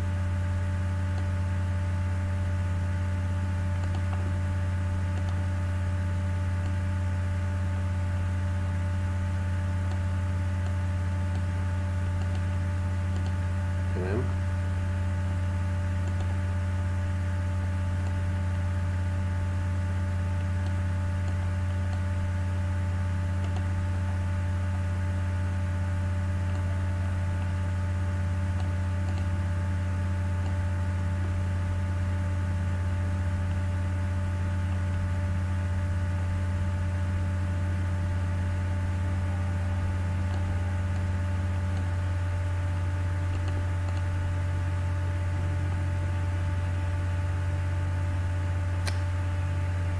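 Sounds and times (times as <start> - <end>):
electrical hum: 0.0 - 49.9.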